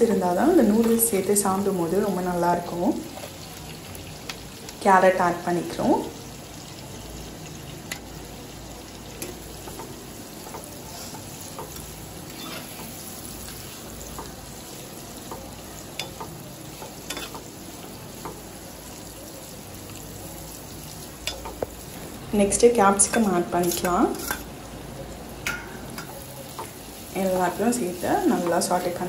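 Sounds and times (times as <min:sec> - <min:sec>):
vegetables sizzling in oil: 0:00.0 - 0:29.0.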